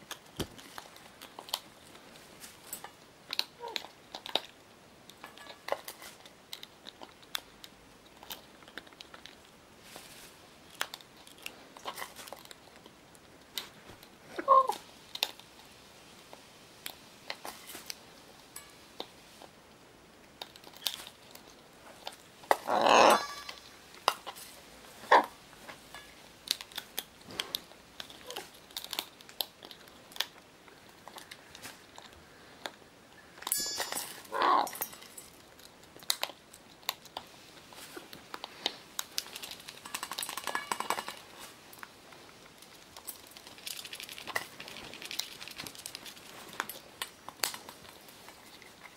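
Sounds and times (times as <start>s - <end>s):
small clicks and crinkling: 0.0s - 22.7s, 23.3s - 48.9s.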